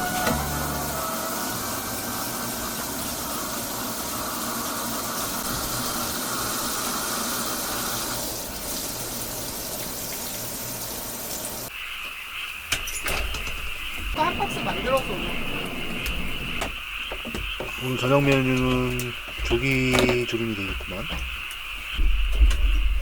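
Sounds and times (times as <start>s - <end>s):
tap water running: 0.0s - 22.9s.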